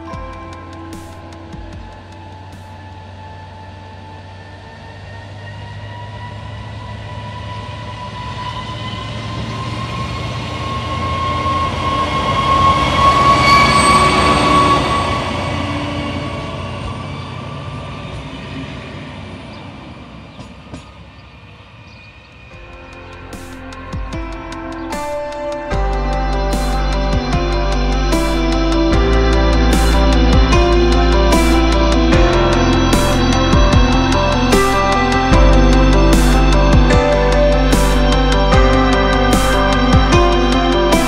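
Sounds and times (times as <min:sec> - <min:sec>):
diesel railcar engine whining: 0:00.0 - 0:41.0.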